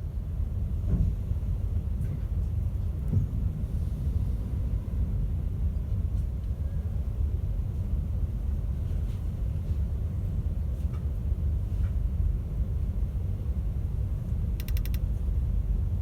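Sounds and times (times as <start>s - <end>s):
train cabin rumble: 0.1s - 16.0s.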